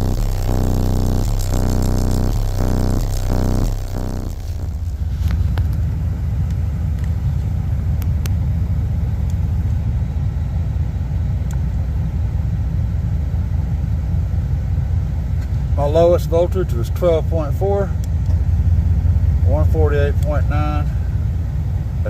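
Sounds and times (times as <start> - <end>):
distorted deep bass rumble: 0.0 - 22.0.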